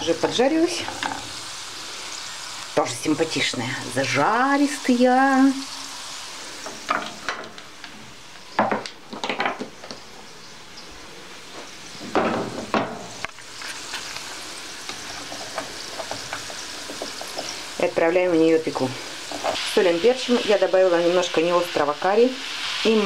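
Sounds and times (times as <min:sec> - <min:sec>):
potatoes sizzling in oil: 0:00.0 - 0:23.0.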